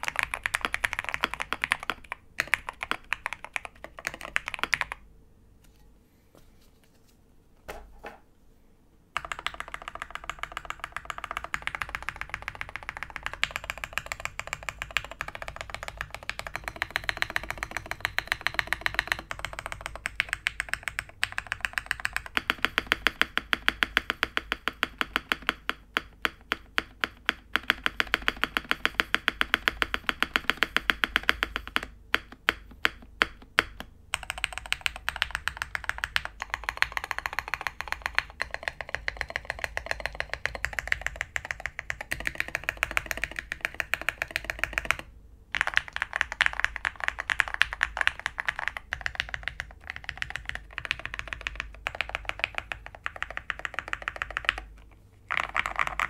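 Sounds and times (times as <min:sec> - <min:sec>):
mechanical keyboard typing: 0:00.0 - 0:05.0, 0:09.2 - 0:56.0.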